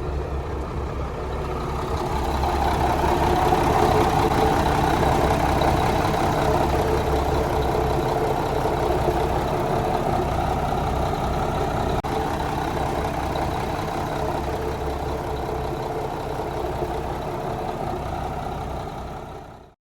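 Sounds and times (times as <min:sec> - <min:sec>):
diesel truck engine idling: 0:00.0 - 0:19.8.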